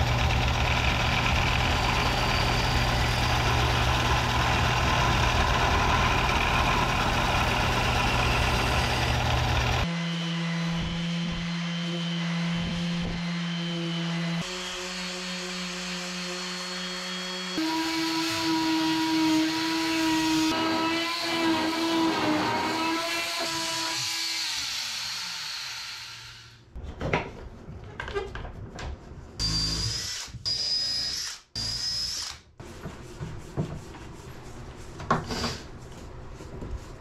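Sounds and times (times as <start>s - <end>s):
multi-tool cutting wood buzz: 0.0s - 26.6s, 29.4s - 32.5s.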